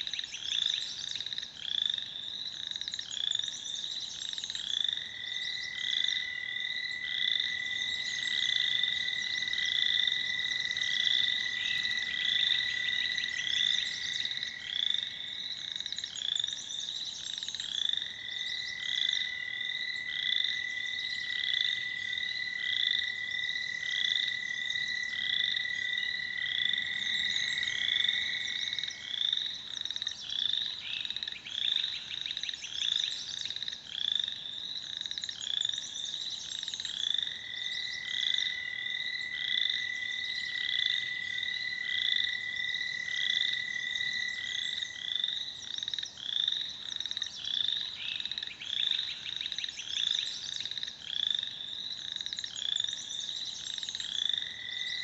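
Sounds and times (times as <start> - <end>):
frogs calling: 0.0 - 55.0.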